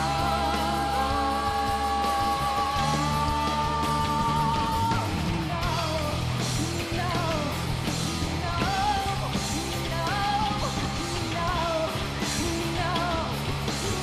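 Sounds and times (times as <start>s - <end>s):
woman singing: 0.0s - 7.5s, 8.4s - 13.4s
live rock band playing: 0.0s - 14.0s.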